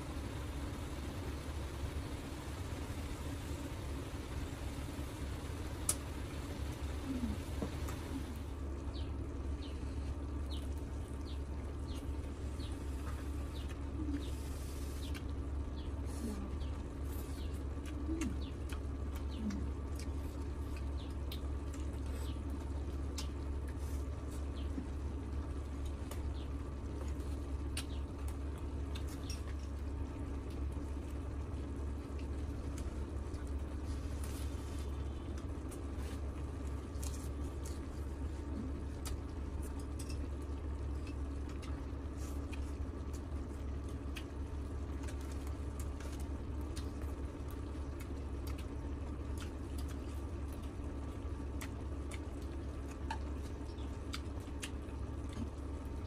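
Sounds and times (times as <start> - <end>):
steady low hum: 0.0 - 56.0
people chewing: 5.8 - 56.0.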